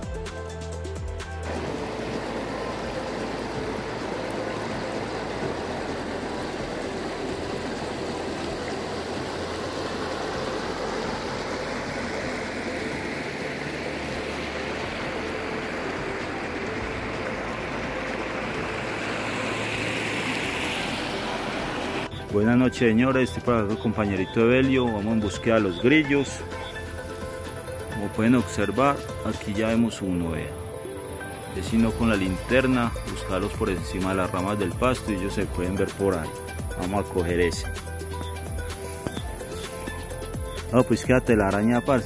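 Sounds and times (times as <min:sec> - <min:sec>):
stream rushing over stones: 0:01.4 - 0:42.0.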